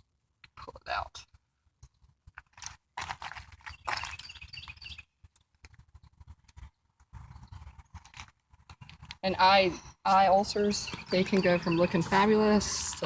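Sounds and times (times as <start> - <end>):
horse hooves shifting: 1.8 - 13.0.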